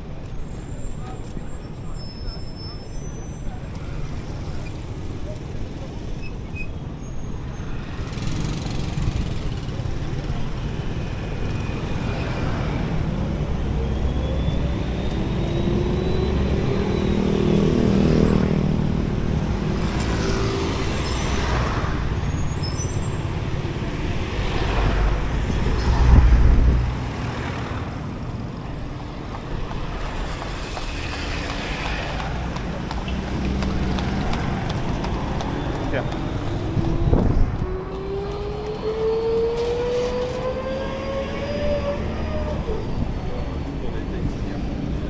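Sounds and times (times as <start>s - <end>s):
vehicles passing: 0.0s - 45.0s.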